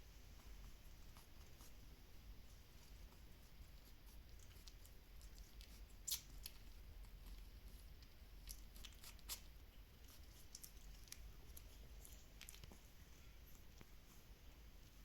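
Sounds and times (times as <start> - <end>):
quiet low hum: 0.0 - 15.0
puppies stirring clicks and rustles: 2.7 - 15.0.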